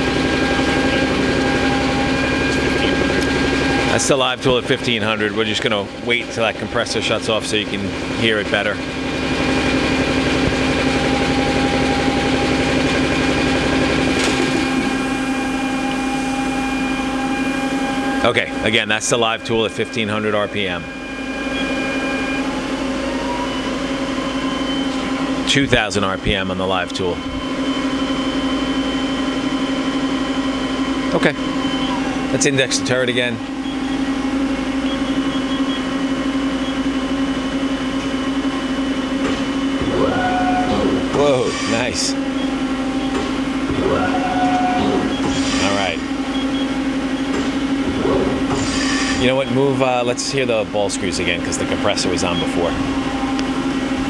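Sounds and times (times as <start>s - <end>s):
air compressor pulsing: 0.0s - 54.0s
milling tool spinning hum: 0.0s - 54.0s.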